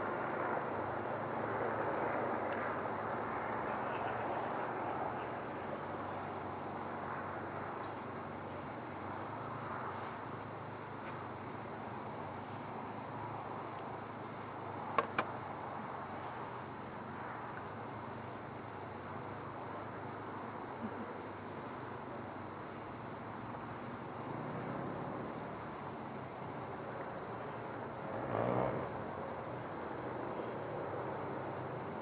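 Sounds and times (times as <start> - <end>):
high insect-like drone: 0.4 - 32.0.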